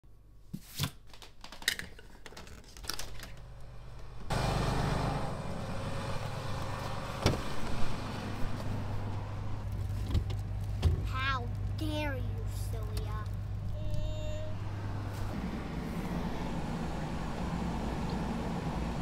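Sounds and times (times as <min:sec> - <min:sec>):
pickup truck engine running: 0:03.7 - 0:19.0.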